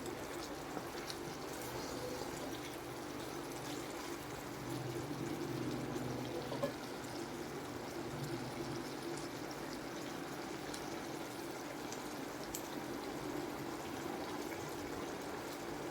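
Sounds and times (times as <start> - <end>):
food bubbling in a pan: 0.0 - 15.9.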